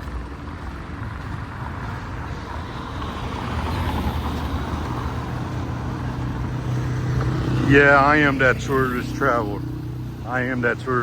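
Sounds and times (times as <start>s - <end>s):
road noise of passing vehicle: 0.0s - 11.0s
vehicle engine humming: 0.0s - 11.0s.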